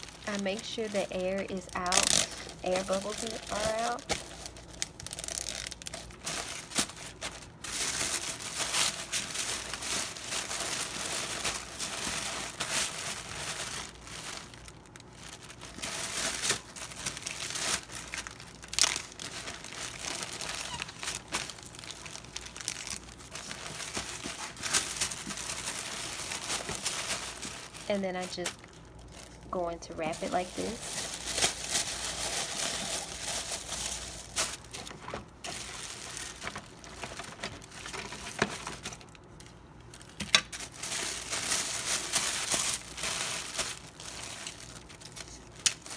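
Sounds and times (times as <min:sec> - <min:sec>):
plastic bag crinkling: 0:00.0 - 0:45.9
wrapping paper folded by hand: 0:00.0 - 0:45.9.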